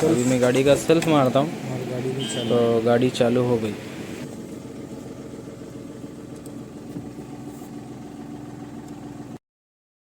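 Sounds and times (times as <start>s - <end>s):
diesel engine idling: 0.0s - 9.4s.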